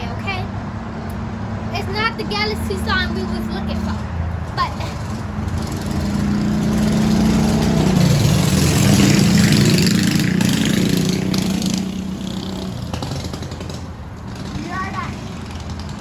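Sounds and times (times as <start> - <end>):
vehicle engine passing by: 0.0 - 16.0.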